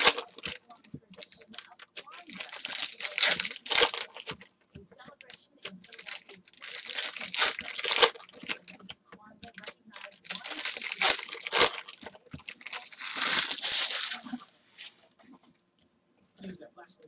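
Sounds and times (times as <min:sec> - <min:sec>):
foil wrapper crinkling and tearing: 0:00.0 - 0:04.5, 0:05.2 - 0:14.4.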